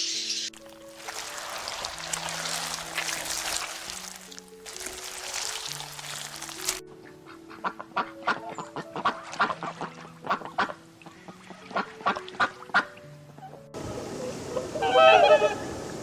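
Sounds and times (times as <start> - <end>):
birds calling: 0.0 - 4.7, 6.4 - 15.8
background music sustained notes: 0.0 - 16.0.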